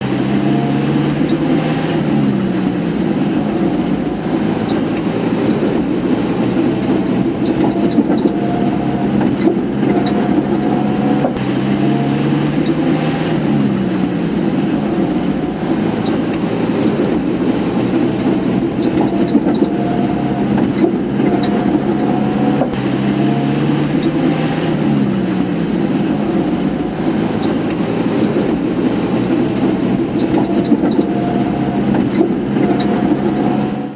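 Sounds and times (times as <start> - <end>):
old jeep engine running: 0.0 - 33.9.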